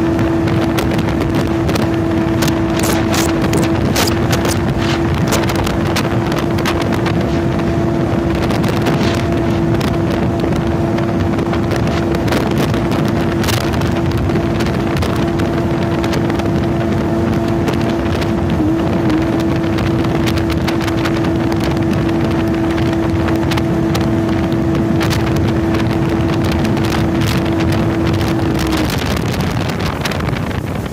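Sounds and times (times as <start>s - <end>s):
water noise: 0.0s - 30.9s
watercraft engine running: 0.0s - 30.9s
wind on microphone: 0.0s - 30.9s.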